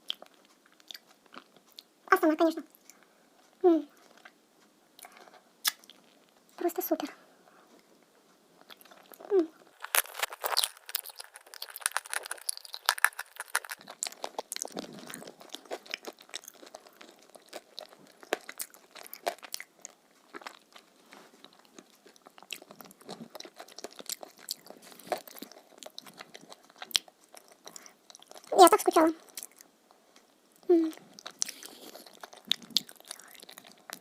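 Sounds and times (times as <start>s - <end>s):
chewing crunchy food: 0.0s - 2.0s, 2.7s - 4.4s, 5.0s - 6.4s, 8.6s - 34.0s.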